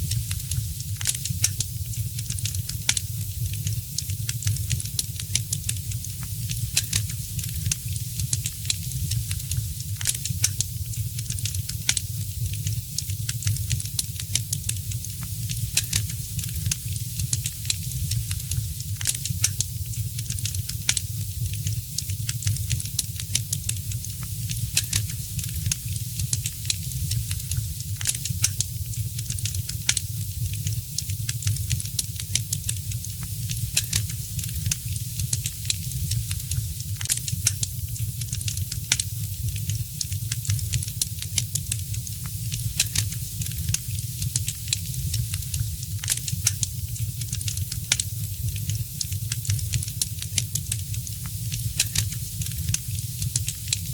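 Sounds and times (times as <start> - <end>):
fire popping and snapping: 0.0 - 53.9
low rumble of fire: 0.0 - 53.9.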